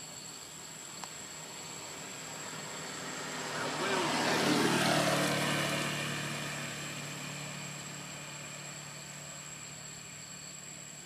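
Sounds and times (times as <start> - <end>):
low engine hum: 0.0 - 11.0
vehicle engine and tyre noise: 0.0 - 11.0.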